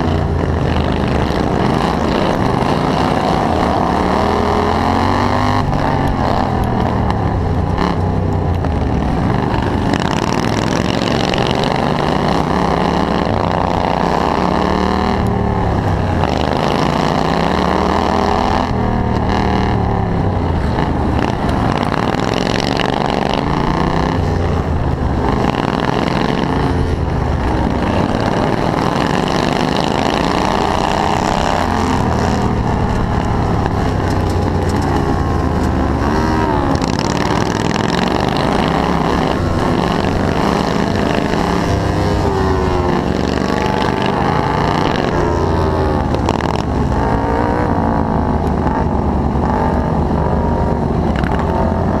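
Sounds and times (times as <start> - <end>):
lawn mower engine revving: 0.0 - 52.0.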